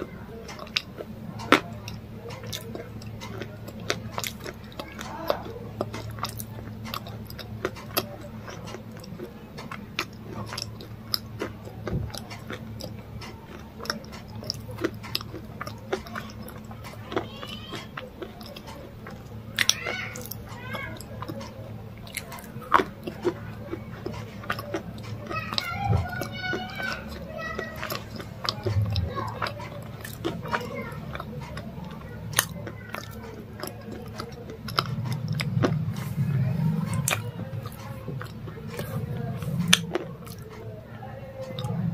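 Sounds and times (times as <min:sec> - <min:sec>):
chewing crunchy food: 0:00.0 - 0:41.9.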